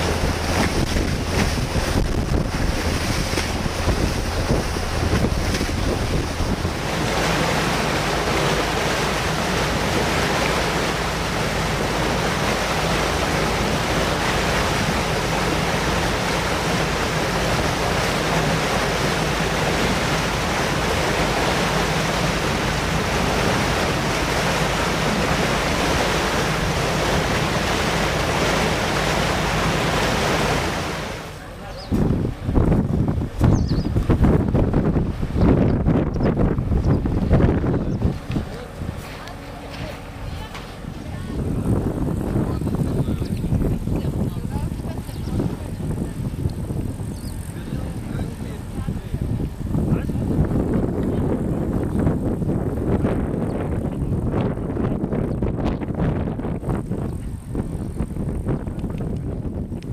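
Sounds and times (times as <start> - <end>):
low engine hum: 0.0 - 59.9
water splashing along boat hull: 0.0 - 59.9
wind buffeting microphone: 0.0 - 59.9.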